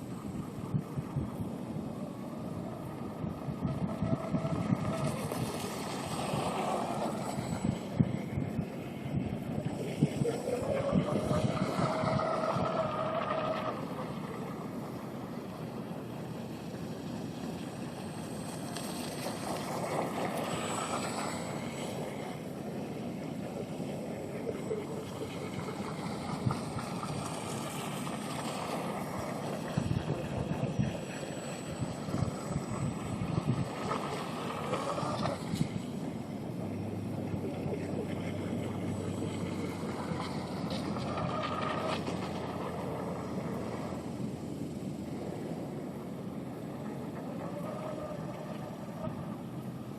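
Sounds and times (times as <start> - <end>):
electric boat motor whining: 0.0 - 49.9
wind rumble on microphone: 0.0 - 49.9.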